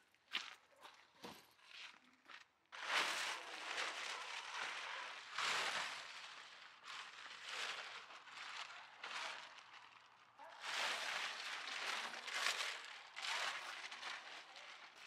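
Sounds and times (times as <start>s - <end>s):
plastic tarp crinkling: 2.7s - 15.0s.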